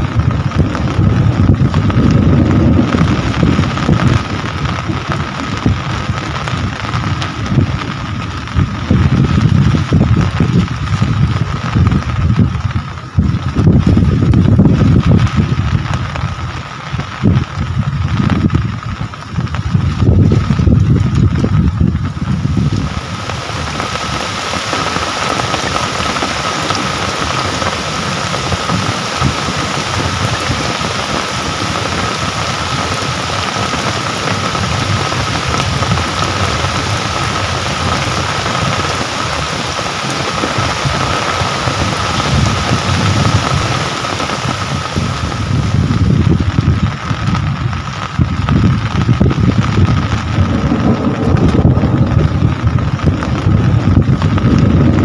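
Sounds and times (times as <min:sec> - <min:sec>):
low rumble: 0:00.0 - 0:39.4, 0:40.4 - 0:55.0
heavy rain hiss: 0:00.0 - 0:55.0.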